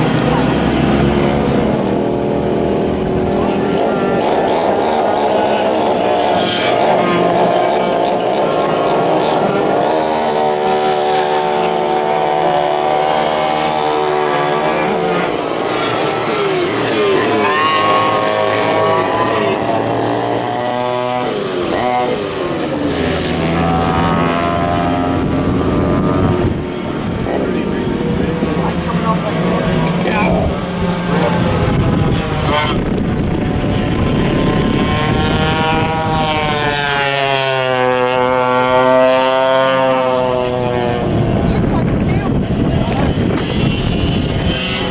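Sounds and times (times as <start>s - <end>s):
rush of noise: 0.0s - 37.5s, 39.7s - 44.9s
kart engine running: 0.0s - 44.9s.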